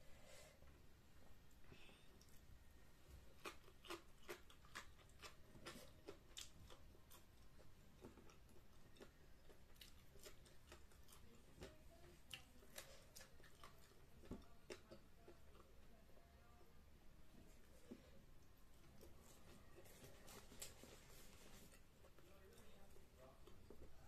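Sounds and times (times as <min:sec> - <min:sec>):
faint chewing: 0:00.6 - 0:24.0.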